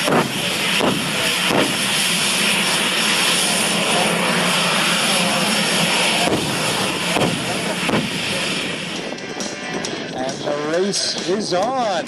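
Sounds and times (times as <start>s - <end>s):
aircraft engine running: 0.0s - 12.0s.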